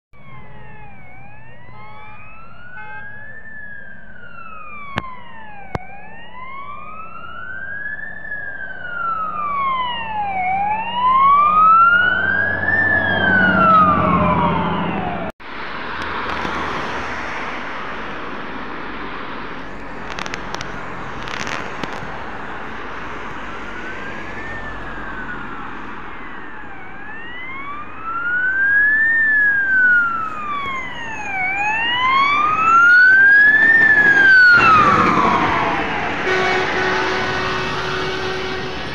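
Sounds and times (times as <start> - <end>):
fire engine siren wailing: 0.1 - 15.4, 19.6 - 38.9
truck engine and tyres passing: 0.2 - 38.9.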